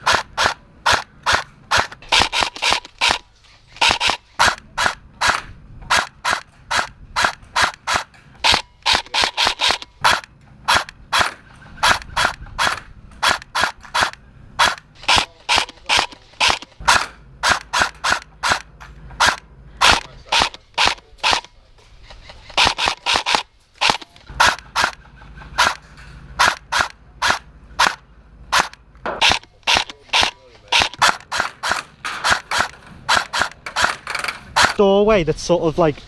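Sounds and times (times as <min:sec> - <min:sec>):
airsoft rifle shots: 0:00.0 - 0:25.0, 0:25.6 - 0:25.8, 0:26.4 - 0:35.0.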